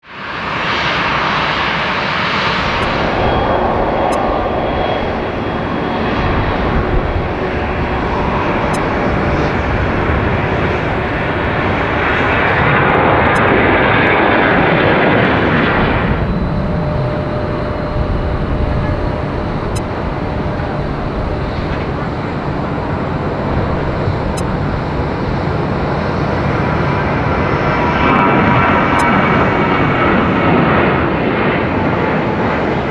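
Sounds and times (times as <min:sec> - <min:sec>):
jet engines running loud: 0:02.6 - 0:13.6, 0:15.6 - 0:31.3.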